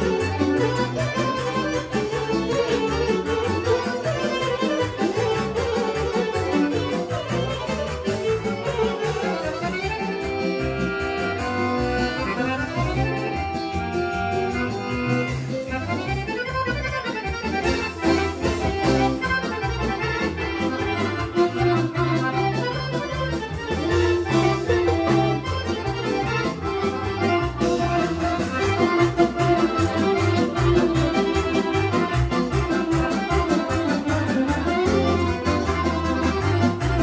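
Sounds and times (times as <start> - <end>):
folk band playing dance music: 0.0 - 37.0.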